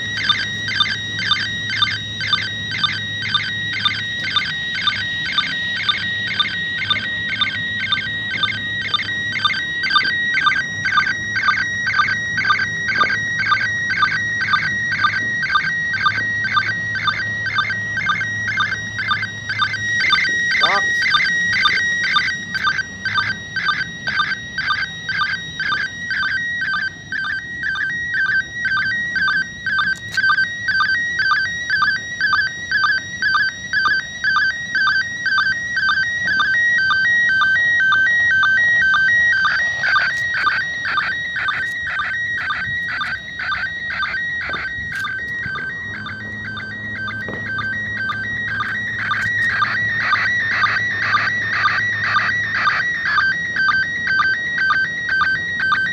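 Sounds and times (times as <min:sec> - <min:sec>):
warbling chirping radio signal tones: 0:00.0 - 0:55.9.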